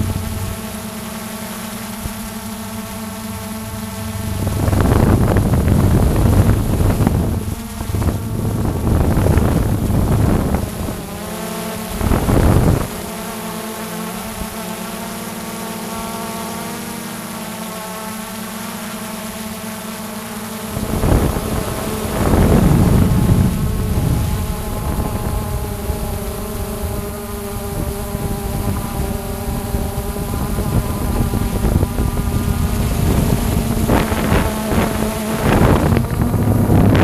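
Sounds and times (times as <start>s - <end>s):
wind noise on microphone: 0.0s - 15.0s, 20.1s - 37.0s
drone propellers buzzing: 0.0s - 37.0s.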